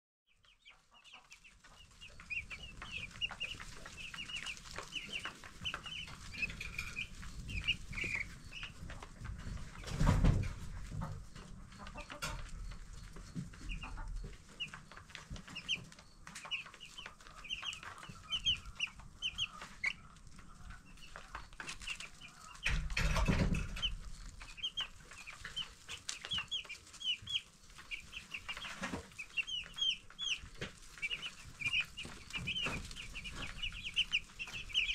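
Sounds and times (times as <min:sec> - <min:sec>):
chicks peeping: 0:00.3 - 0:34.9.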